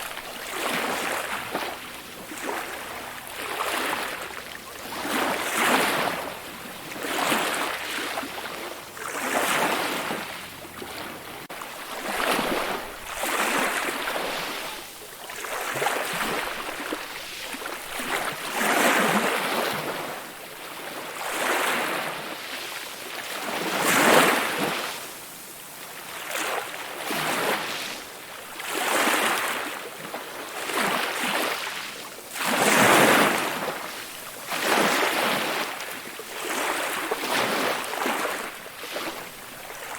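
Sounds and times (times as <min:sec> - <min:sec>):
ocean waves breaking: 0:00.0 - 0:25.4, 0:26.1 - 0:39.9.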